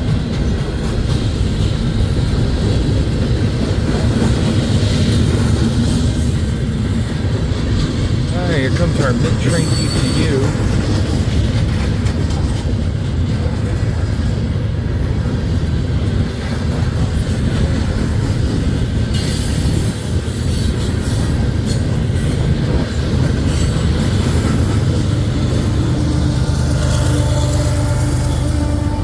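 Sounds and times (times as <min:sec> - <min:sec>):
freight train rumbling past: 0:00.0 - 0:29.0
train wheel clatter: 0:00.0 - 0:29.0.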